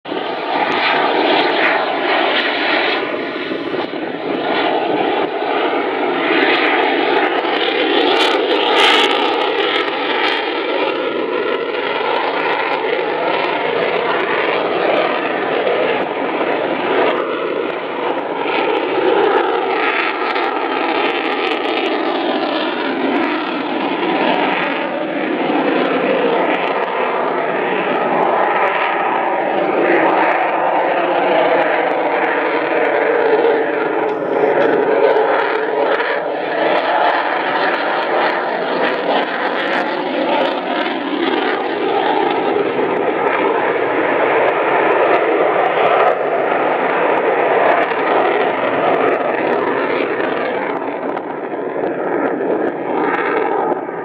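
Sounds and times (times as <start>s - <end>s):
loud jet roar: 0.0s - 54.0s.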